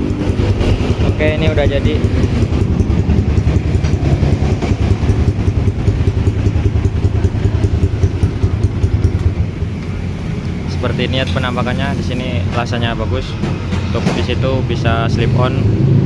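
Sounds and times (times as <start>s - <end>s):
motorcycle engine idling: 0.0s - 15.1s.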